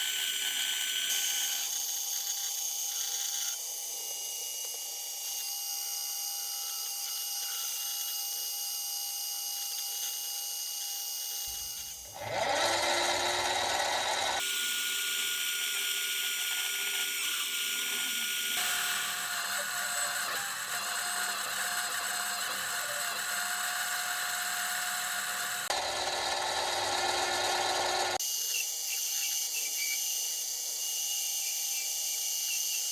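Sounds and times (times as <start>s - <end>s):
metal lathe motor whine: 0.0s - 32.9s.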